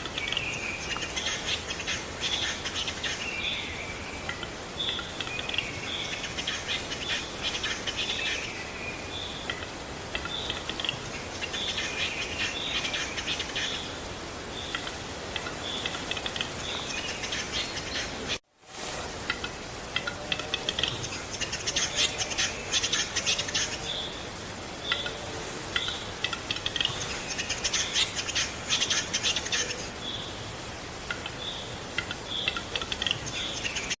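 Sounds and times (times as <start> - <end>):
small songbird chirping: 0.0 - 18.4, 19.4 - 34.0.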